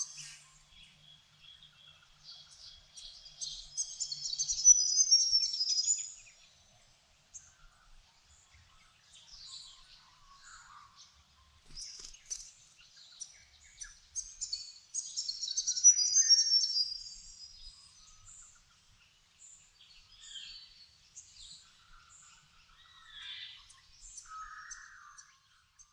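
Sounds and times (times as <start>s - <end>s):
birds singing and chirping: 0.0s - 6.6s, 7.3s - 25.9s.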